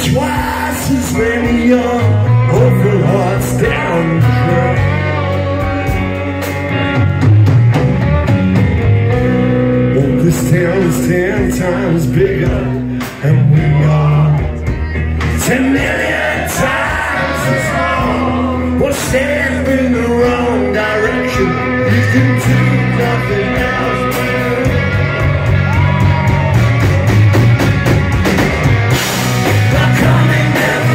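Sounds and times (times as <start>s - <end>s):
live rock band playing: 0.0s - 30.9s.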